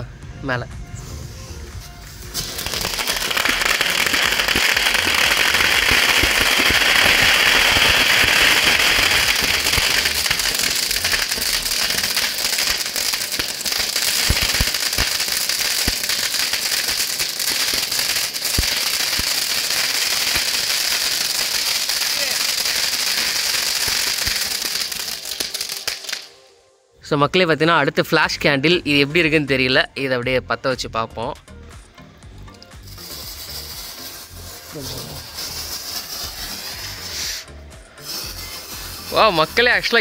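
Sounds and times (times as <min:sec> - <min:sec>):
firework fountain hissing: 0:01.0 - 0:26.3, 0:32.6 - 0:40.0
firework crackling: 0:01.5 - 0:26.4, 0:32.5 - 0:40.0.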